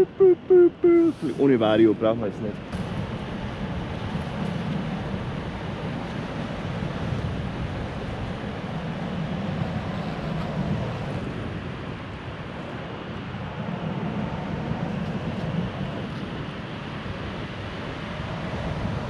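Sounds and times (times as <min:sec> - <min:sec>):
wind noise on microphone: 0:02.6 - 0:19.0.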